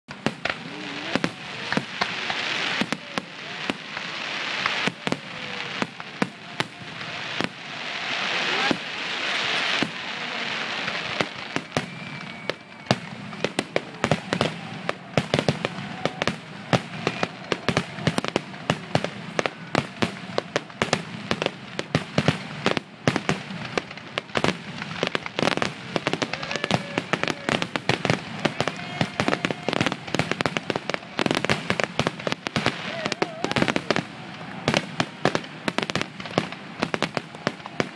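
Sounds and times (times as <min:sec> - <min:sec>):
fireworks bursting: 0:00.1 - 0:37.9.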